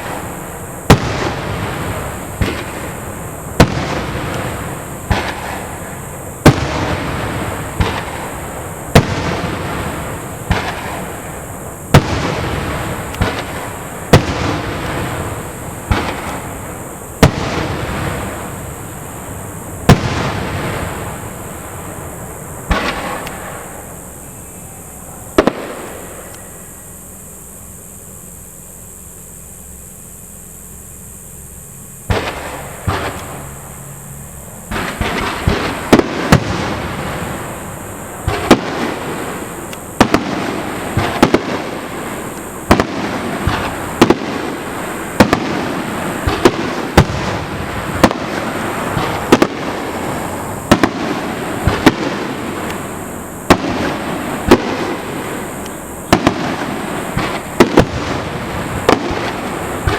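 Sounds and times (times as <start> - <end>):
firework booms: 0.0 - 26.3, 32.0 - 33.8, 34.5 - 59.9
firework shell bursts: 0.0 - 26.9, 32.0 - 33.8, 34.6 - 59.9
fireworks crackling: 0.0 - 59.9.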